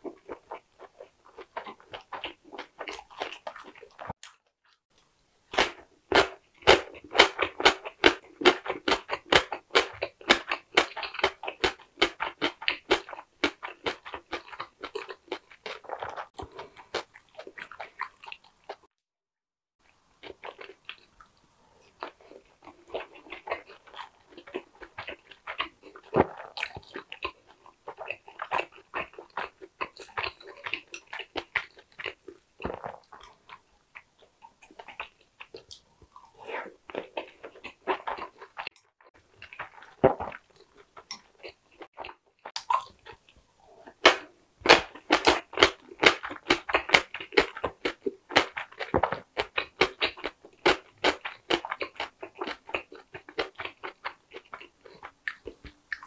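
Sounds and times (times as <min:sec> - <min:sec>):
wet chewing of food: 0:00.0 - 0:19.0, 0:19.9 - 0:56.0.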